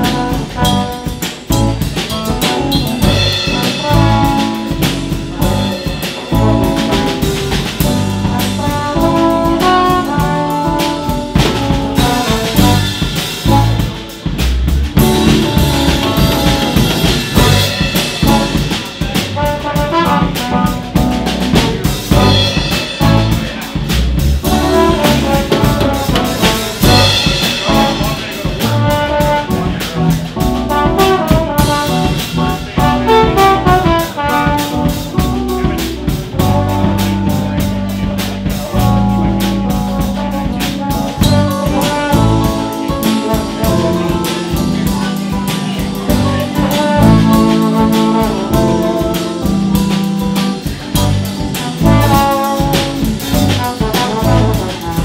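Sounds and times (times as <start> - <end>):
live band playing: 0.0 - 55.0
trombone melody: 0.0 - 55.0.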